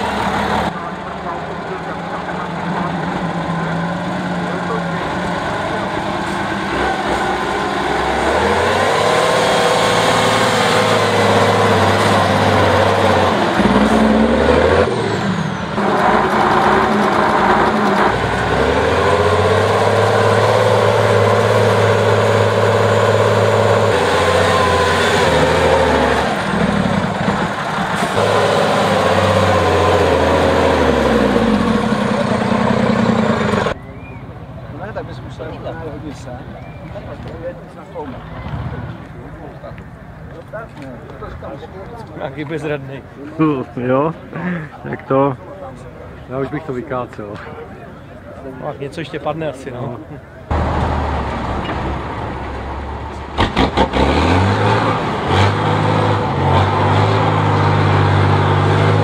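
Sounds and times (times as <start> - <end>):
diesel truck engine labouring: 0.0 - 59.0.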